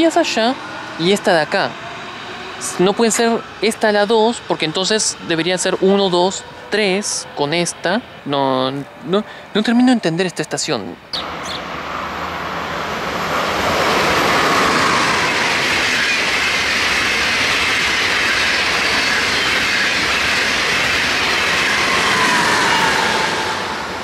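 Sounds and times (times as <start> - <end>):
train wheel-on-rail rush: 0.0 - 24.0.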